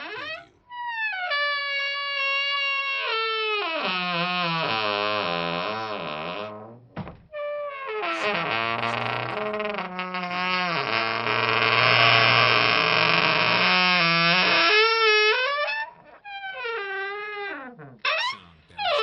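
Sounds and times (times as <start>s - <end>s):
wooden door creaking: 0.0s - 19.0s.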